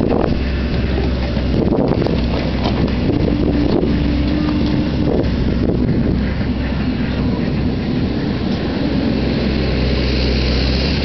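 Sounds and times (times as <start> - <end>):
excavator diesel engine running: 0.0 - 11.0
steady whine: 0.0 - 11.0
wind buffeting microphone: 0.0 - 11.0.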